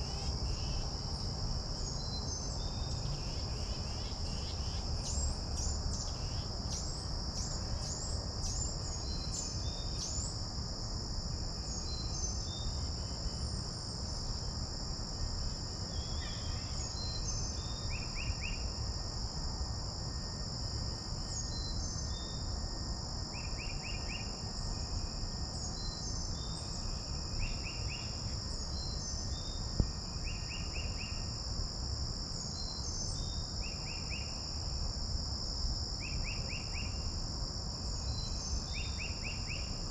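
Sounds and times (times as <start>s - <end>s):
high-pitched insect chorus drone: 0.0s - 39.9s.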